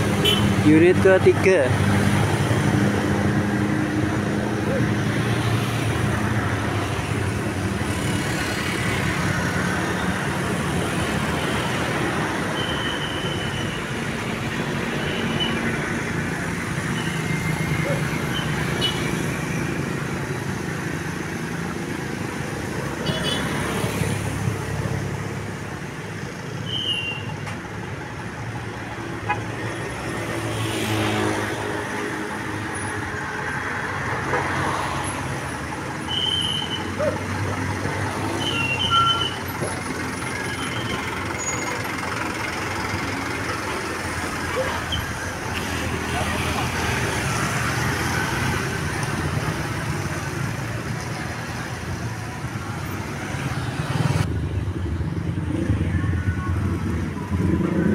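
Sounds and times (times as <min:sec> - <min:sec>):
buses passing: 0:00.0 - 0:57.9.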